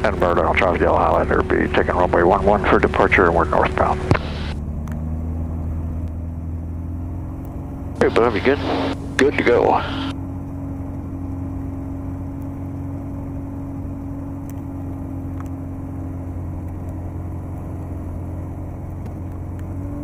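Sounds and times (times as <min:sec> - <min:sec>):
propeller engine droning: 0:00.0 - 0:20.0.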